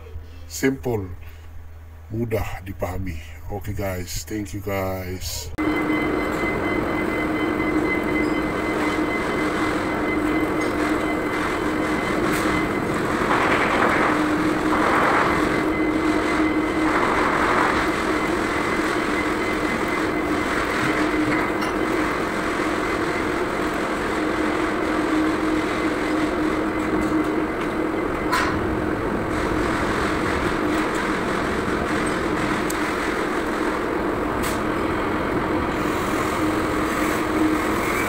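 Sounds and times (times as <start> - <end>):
constant hum: 0.0 - 38.0.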